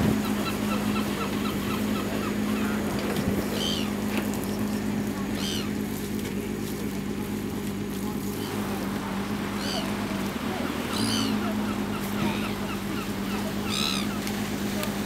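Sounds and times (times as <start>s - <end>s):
harsh bird calls: 0.0s - 5.9s, 8.3s - 14.6s
birds chirping: 0.0s - 15.0s
low motor hum: 0.0s - 15.0s.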